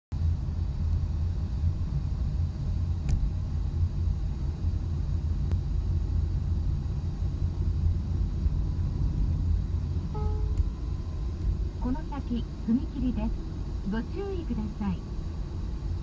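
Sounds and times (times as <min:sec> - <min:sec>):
car engine and road noise: 0:00.2 - 0:16.0.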